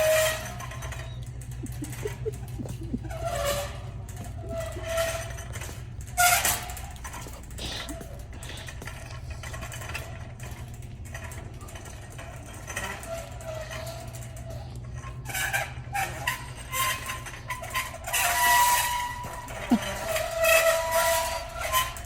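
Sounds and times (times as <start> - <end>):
squeaky shopping cart wheel: 0.0 - 22.0
steady low hum: 0.0 - 22.0.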